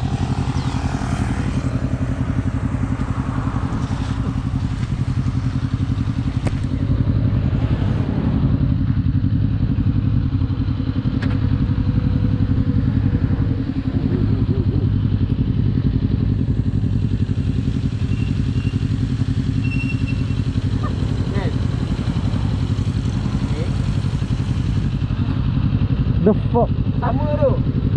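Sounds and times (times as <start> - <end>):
motorcycle engine cruising: 0.0 - 27.9.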